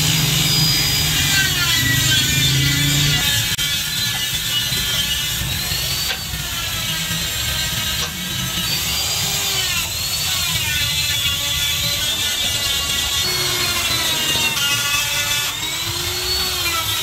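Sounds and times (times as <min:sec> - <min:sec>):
die grinder whining: 0:00.0 - 0:17.0.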